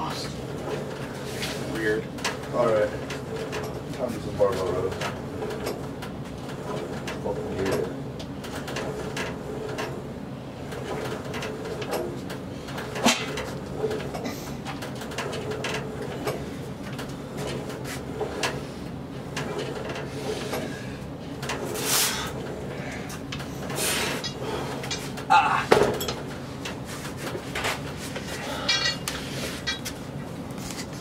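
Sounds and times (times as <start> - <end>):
weight stack clicking and knocking: 2.1 - 10.0, 10.6 - 18.6, 19.2 - 30.0.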